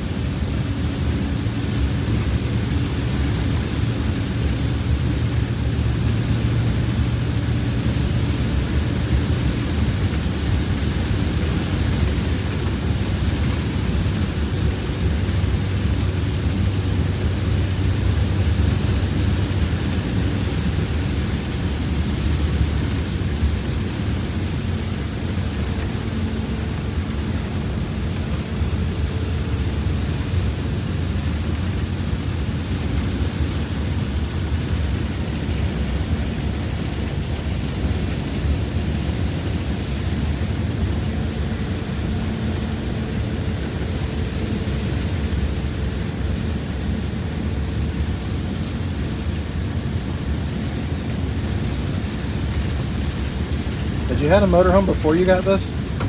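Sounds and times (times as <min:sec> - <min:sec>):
diesel engine rumbling: 0:00.0 - 0:56.0
road and wind noise: 0:00.0 - 0:56.0.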